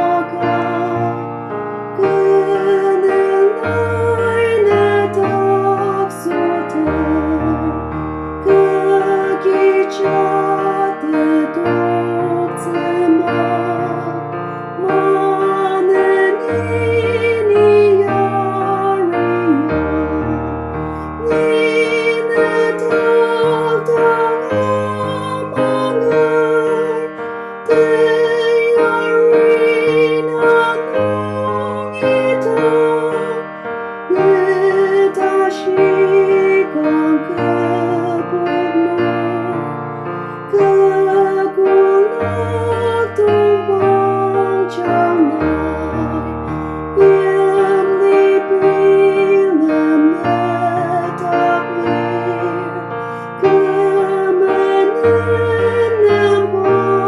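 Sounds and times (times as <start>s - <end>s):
electric piano chords: 0.0s - 57.0s.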